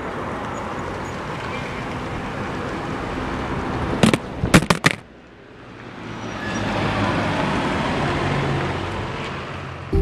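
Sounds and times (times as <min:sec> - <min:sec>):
road vehicle engine and tyres: 0:00.0 - 0:10.0.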